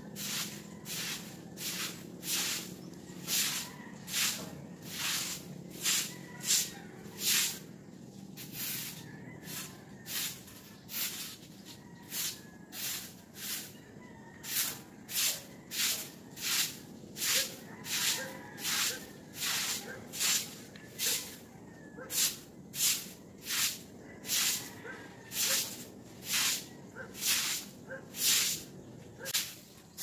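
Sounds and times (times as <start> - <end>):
stiff broom sweeping wet concrete: 0.0 - 13.8, 14.4 - 30.0.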